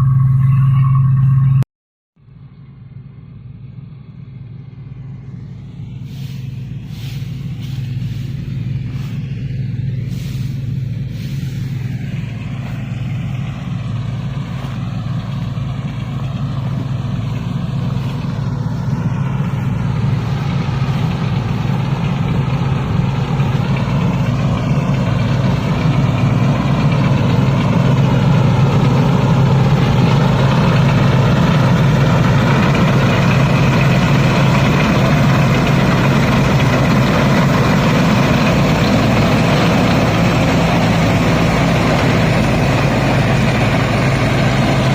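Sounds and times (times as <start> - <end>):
combine harvester engine running: 0.0 - 1.6, 2.2 - 44.9.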